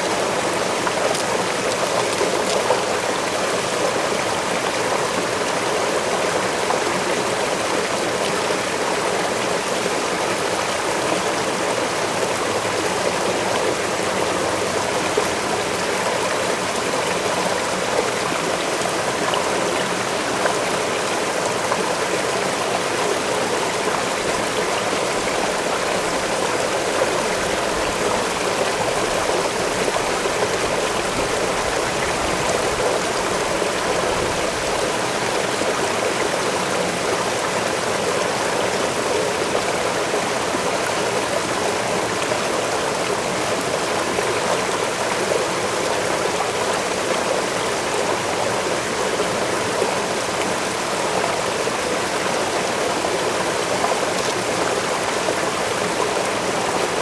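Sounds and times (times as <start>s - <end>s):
waterfall and stream rushing: 0.0s - 57.0s.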